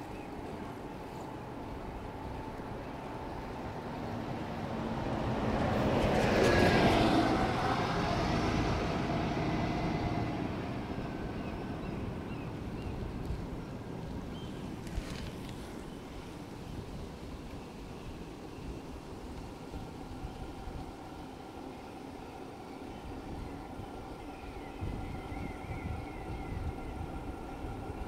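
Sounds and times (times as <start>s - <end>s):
wind and tyre hiss: 0.0s - 28.0s.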